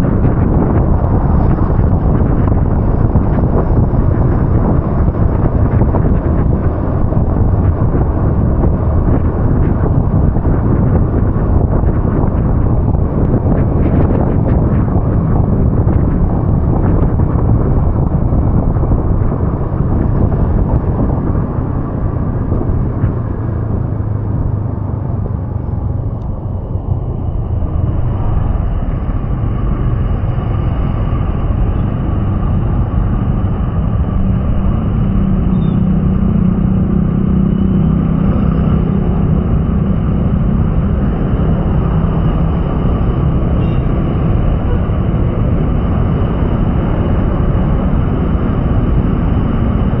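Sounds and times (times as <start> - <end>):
low engine hum: 0.0 - 50.0
vehicles rumbling on wet road: 0.0 - 50.0.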